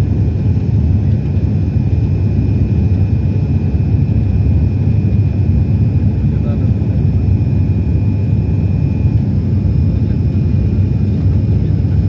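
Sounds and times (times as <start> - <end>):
low rumble of engines and airflow: 0.0 - 12.0.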